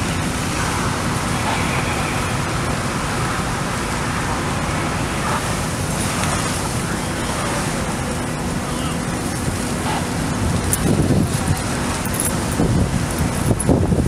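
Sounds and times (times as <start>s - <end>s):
fire engine humming: 0.0s - 14.0s.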